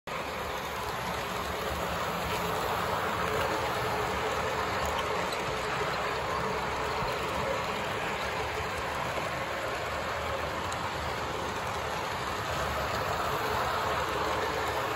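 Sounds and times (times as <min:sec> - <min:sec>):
model train whirring: 0:00.1 - 0:14.9.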